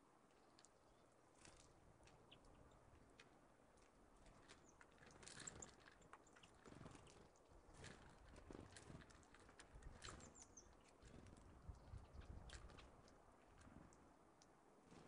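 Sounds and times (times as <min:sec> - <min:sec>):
birds pecking: 0:00.0 - 0:15.0
songbirds chirping: 0:00.0 - 0:15.0.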